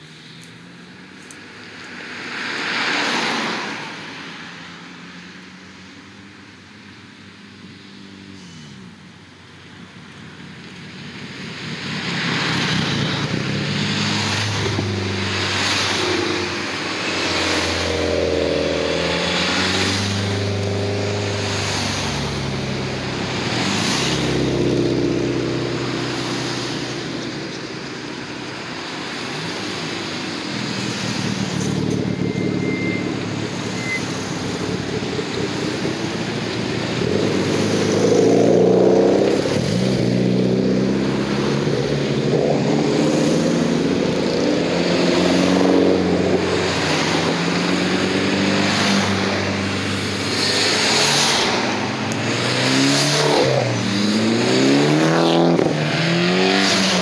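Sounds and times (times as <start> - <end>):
car engines passing by: 0.0 - 57.0.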